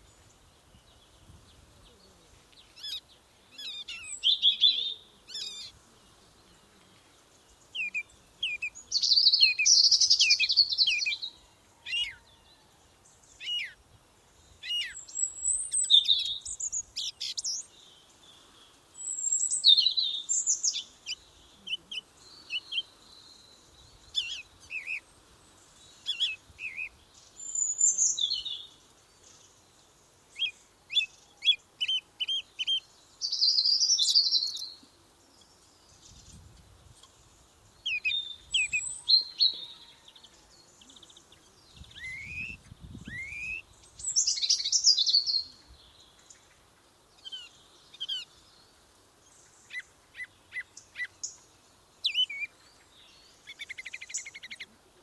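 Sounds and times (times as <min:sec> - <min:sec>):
wild birds singing and chirping: 0:00.0 - 0:55.0.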